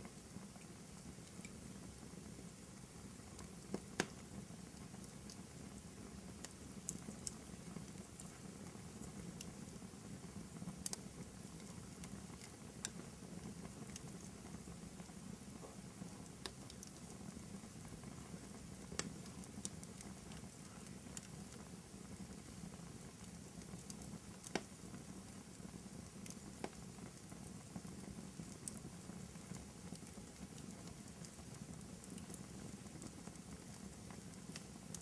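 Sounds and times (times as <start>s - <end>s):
logs crackling and popping: 3.0s - 35.0s.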